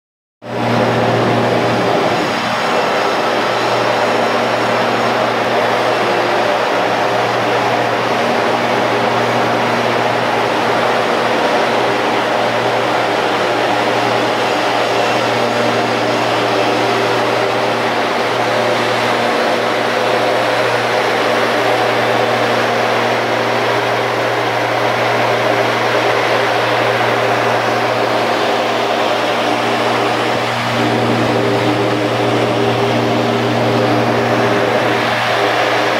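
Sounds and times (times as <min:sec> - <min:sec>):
fan air rush with hum: 0:00.5 - 0:35.9
fan steady tones: 0:00.5 - 0:35.9.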